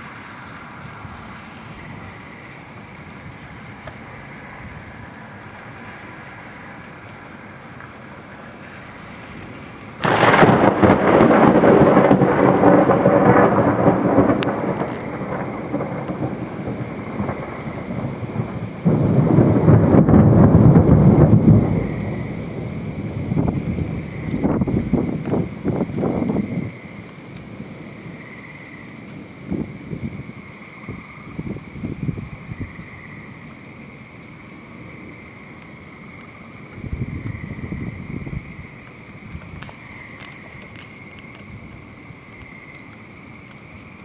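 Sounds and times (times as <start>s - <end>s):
thunder clap rumbling: 6.8s - 44.0s.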